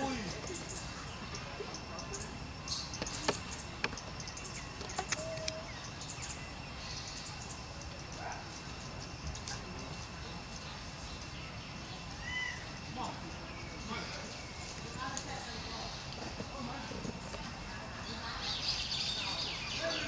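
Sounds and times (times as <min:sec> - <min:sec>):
small birds chirping: 0:00.0 - 0:20.0
steady hiss: 0:00.0 - 0:20.0.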